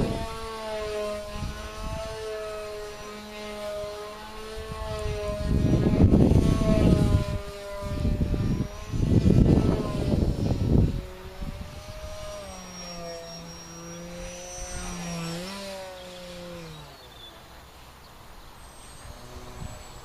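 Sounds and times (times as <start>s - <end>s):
model plane propeller droning: 0.0s - 20.0s.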